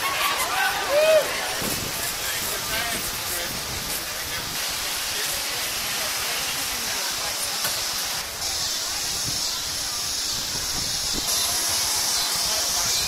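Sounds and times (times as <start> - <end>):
faint crowd voices: 0.0 - 13.0
steady high hiss: 0.1 - 13.0.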